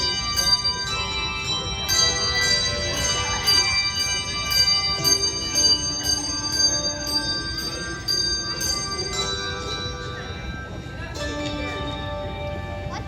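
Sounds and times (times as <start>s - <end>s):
handbell choir playing: 0.0s - 13.0s.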